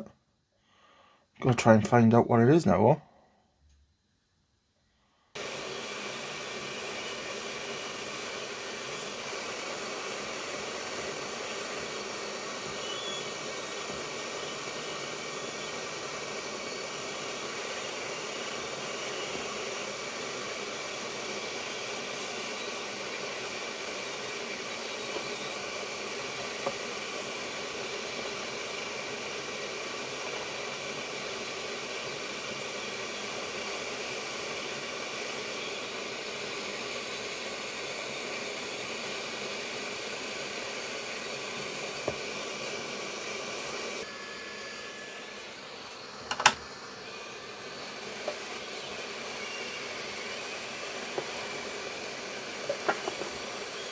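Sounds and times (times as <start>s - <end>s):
hot air blower rushing: 5.3s - 53.9s.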